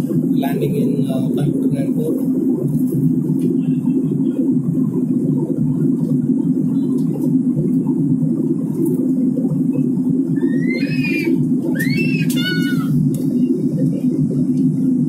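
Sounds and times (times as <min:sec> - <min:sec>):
jet engines droning: 0:00.0 - 0:15.0.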